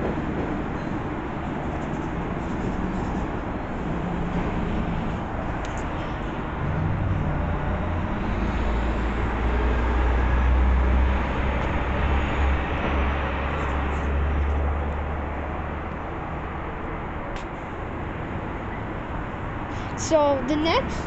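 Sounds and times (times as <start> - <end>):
passing vehicle rumble: 0.0 - 21.0.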